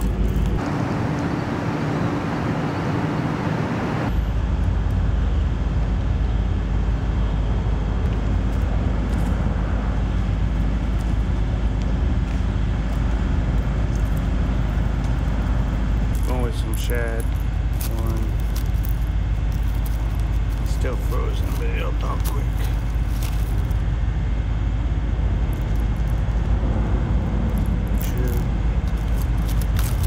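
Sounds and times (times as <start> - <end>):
faint steady hum: 0.0 - 30.0
road traffic on bridge: 0.0 - 30.0.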